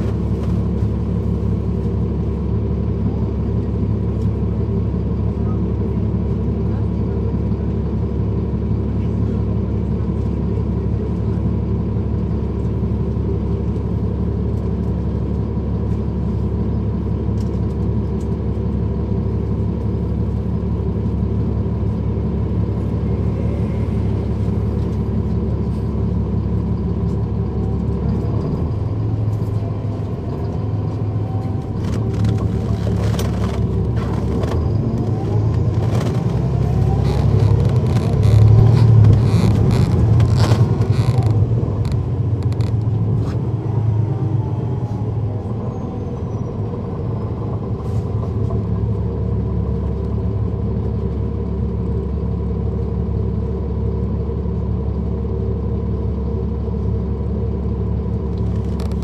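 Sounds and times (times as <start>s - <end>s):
bus diesel engine droning: 0.0s - 59.0s.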